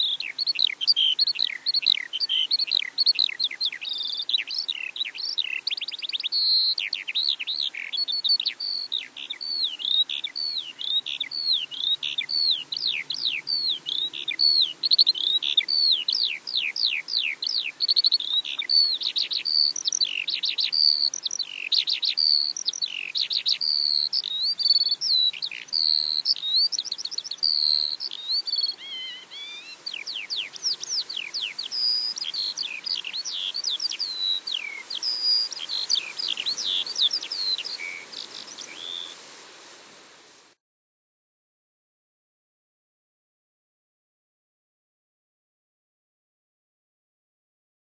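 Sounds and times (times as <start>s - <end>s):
songbird chirps and whistles: 0.0s - 39.4s.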